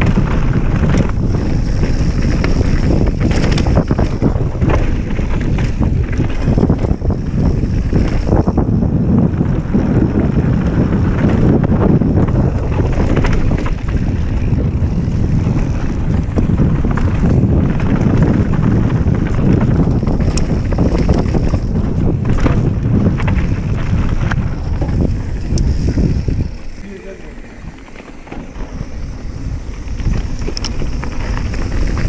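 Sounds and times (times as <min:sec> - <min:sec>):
bike clicks and knocks: 0:00.0 - 0:26.8, 0:27.5 - 0:32.0
tyres rumbling on dirt: 0:00.0 - 0:32.0
wind buffeting microphone: 0:00.0 - 0:32.0.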